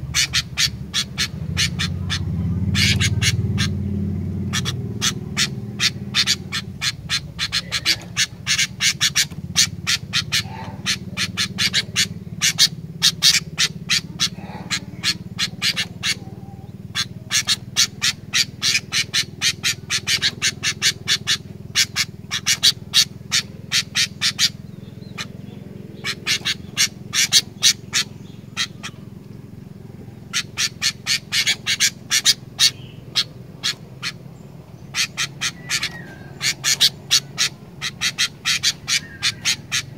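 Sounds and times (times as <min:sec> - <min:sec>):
bird chattering calls: 0:00.0 - 0:39.9
steady low hum: 0:00.0 - 0:39.9.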